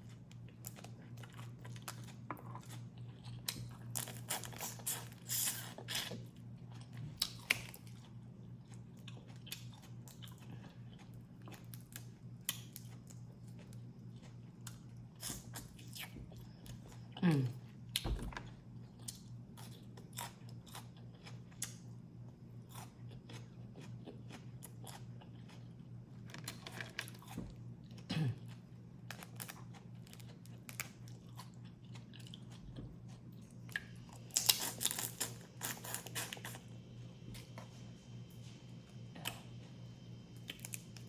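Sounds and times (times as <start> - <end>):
chewing and crunching: 0.0 - 36.7, 40.4 - 41.0.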